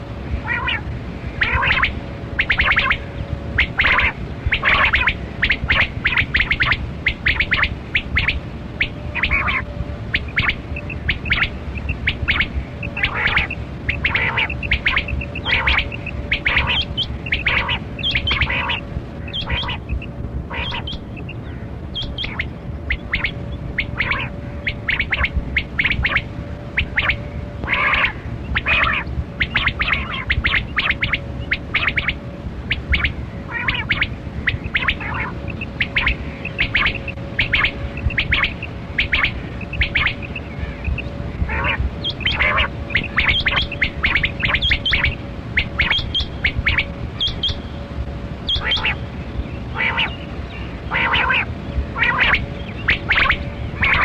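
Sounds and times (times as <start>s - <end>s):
faint steady hum: 0.0s - 54.0s
quail calling: 0.4s - 47.7s, 48.4s - 49.1s, 49.7s - 54.0s.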